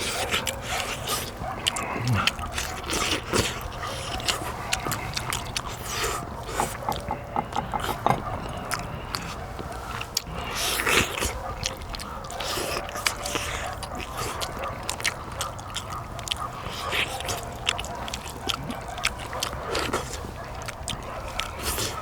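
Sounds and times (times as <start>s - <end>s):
person chewing meat off bones: 0.0s - 22.0s
wet mouth clicks and smacks: 0.1s - 22.0s.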